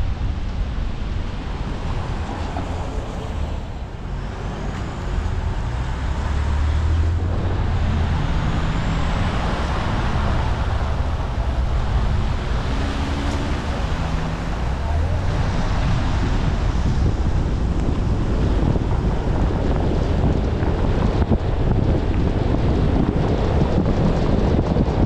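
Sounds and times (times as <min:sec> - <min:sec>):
low engine hum: 0:00.0 - 0:25.0
tyres on wet road: 0:00.0 - 0:25.0.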